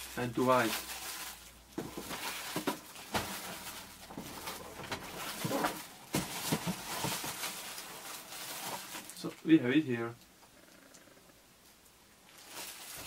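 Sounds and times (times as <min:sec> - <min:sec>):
plastic sleeves rustling: 0:00.0 - 0:10.3, 0:12.2 - 0:13.0.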